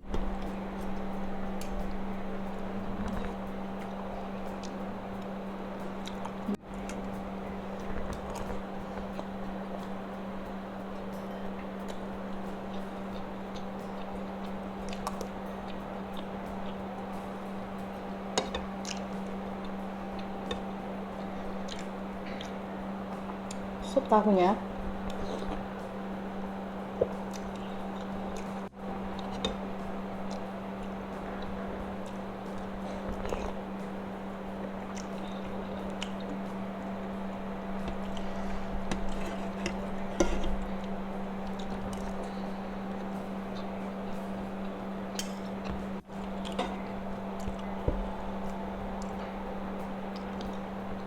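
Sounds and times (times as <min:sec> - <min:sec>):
steady low hum: 0:00.0 - 0:51.0
soft chewing: 0:00.1 - 0:51.0.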